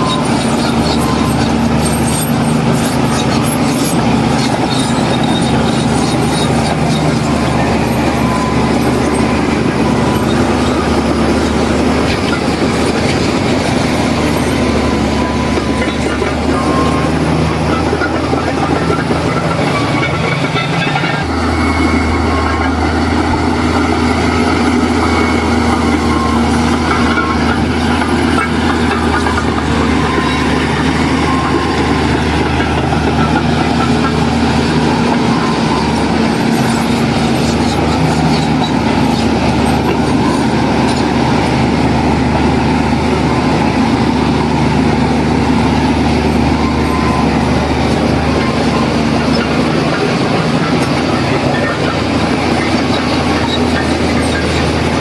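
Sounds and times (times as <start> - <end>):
diesel earthmoving machine running: 0.0 - 55.0.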